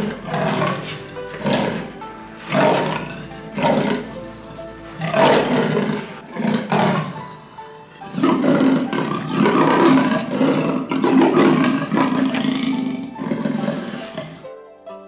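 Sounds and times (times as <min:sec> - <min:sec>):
big cat roaring and growling: 0:00.0 - 0:14.4
soft background music: 0:00.0 - 0:15.0.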